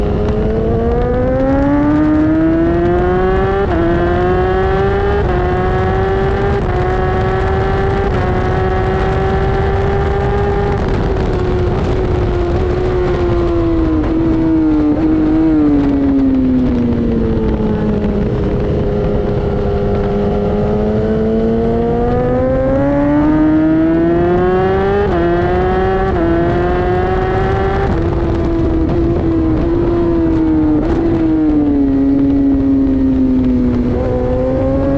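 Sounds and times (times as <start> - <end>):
motorcycle engine revving through gears: 0.0 - 34.9
wind rushing: 0.0 - 34.9.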